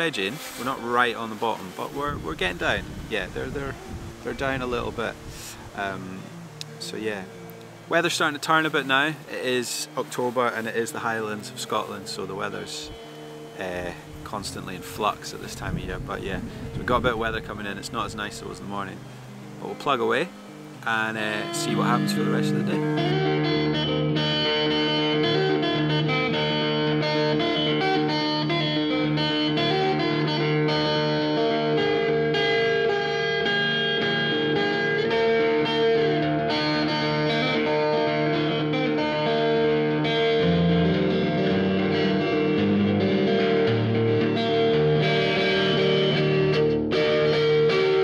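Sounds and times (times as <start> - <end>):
guitar instrumental music: 0.0 - 48.0.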